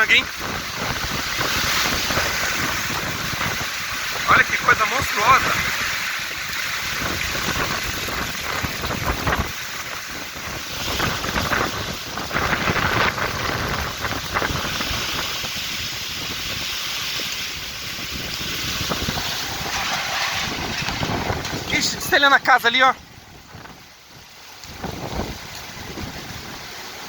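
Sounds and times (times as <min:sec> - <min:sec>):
gusting wind buffeting microphone: 0:00.0 - 0:27.0
heavy rain: 0:00.0 - 0:27.0.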